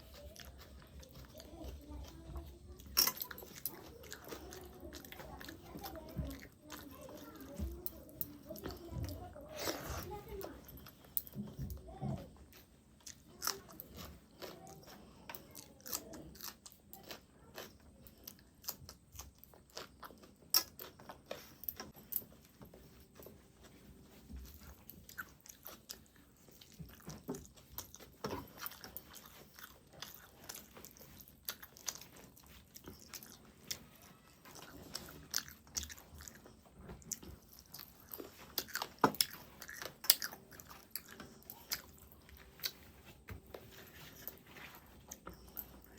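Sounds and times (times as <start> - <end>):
crunches and mouth clicks: 0.0 - 45.9
person chewing food: 0.0 - 45.9.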